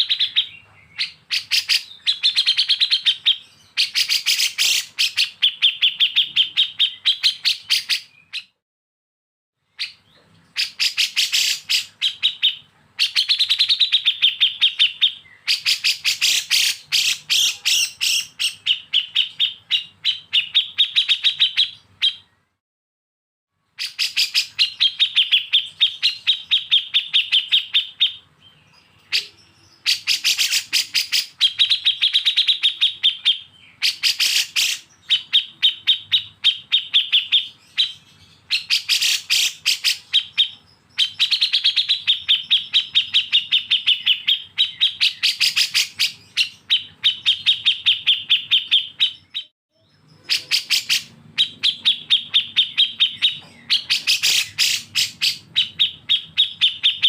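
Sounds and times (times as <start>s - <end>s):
songbird chattering: 0.0s - 8.5s, 9.8s - 22.4s, 23.8s - 57.0s.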